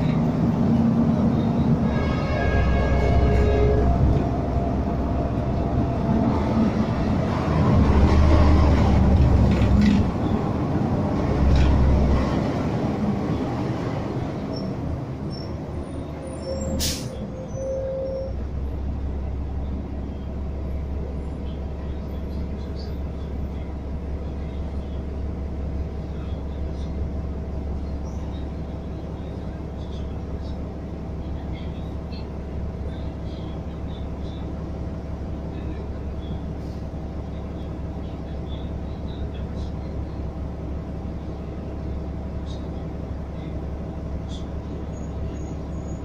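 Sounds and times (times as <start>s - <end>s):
city traffic: 0.0s - 46.0s
vehicle engine rumble: 0.0s - 46.0s.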